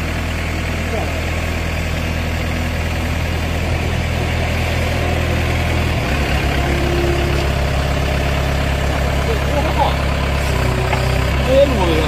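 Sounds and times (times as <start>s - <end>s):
pile driver engine idling: 0.0s - 12.0s.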